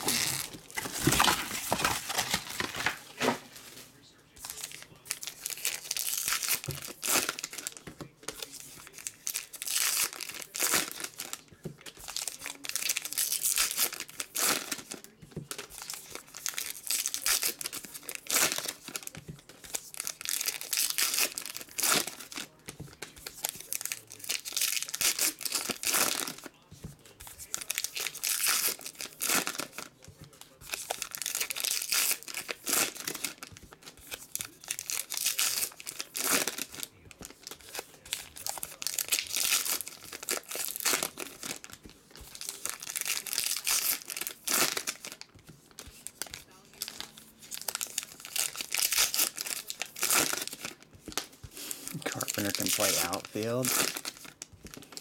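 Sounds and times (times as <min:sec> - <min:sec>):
card pack wrappers tearing: 0:00.0 - 0:03.8, 0:04.4 - 0:11.4, 0:12.0 - 0:19.1, 0:19.7 - 0:22.6, 0:23.4 - 0:26.5, 0:30.7 - 0:45.2, 0:46.1 - 0:55.0.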